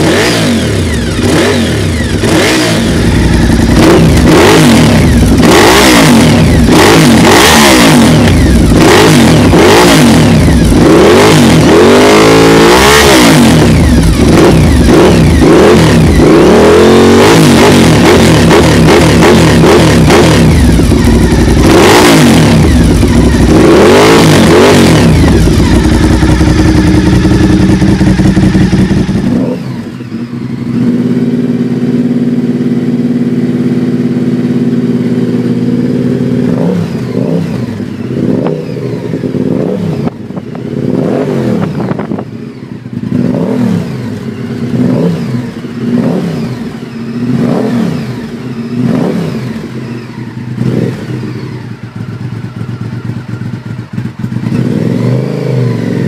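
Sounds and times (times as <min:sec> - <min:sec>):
motorcycle engine idling and blipped: 0:00.0 - 0:56.0
motorcycle engine revving: 0:00.0 - 0:56.0.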